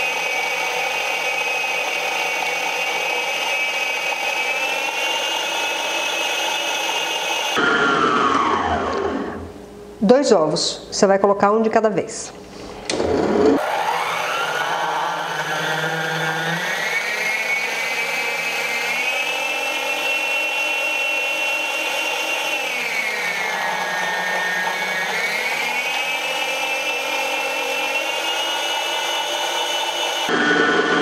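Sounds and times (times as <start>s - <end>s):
stand mixer motor whining: 0.0s - 9.5s, 12.8s - 31.0s.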